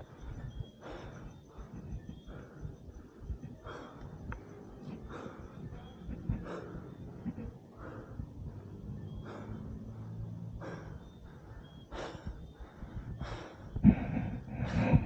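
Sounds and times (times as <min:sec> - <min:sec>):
man breathing heavily: 0:00.0 - 0:15.0.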